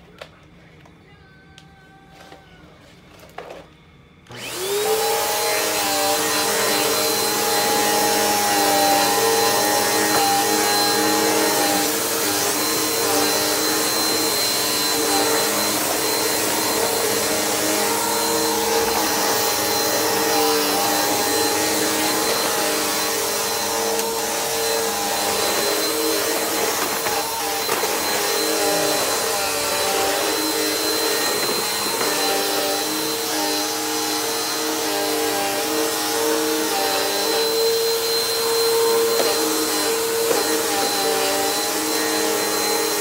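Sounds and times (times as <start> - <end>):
vacuum cleaner motor whining: 1.5 - 43.0.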